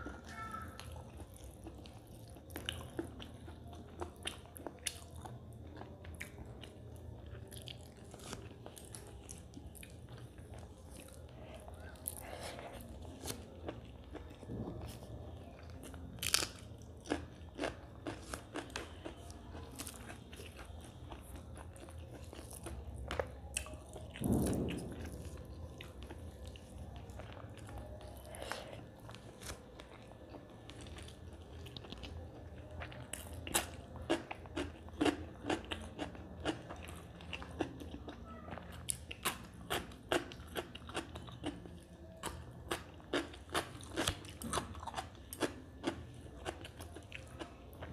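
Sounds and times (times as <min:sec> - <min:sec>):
woman chewing crunchy food: 0:00.0 - 0:47.9.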